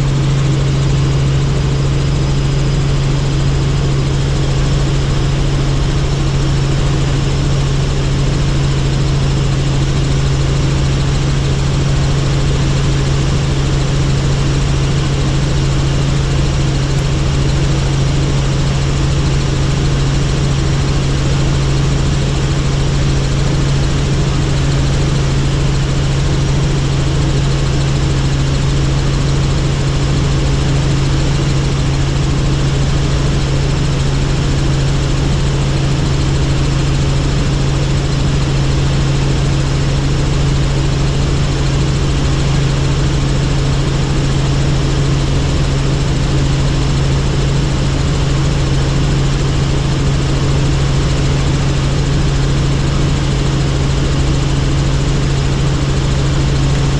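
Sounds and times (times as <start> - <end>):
helicopter engine and rotors: 0.0 - 56.9.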